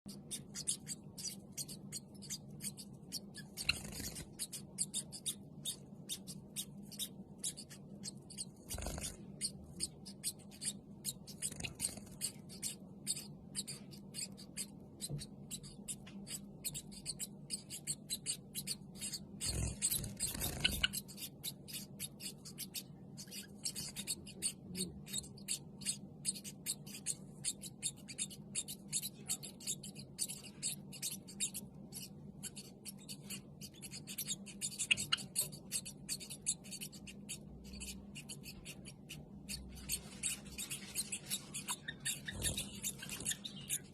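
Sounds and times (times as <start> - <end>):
faint low hum: 0.1 - 43.9
sparrows making scratchy clicks: 0.1 - 43.9.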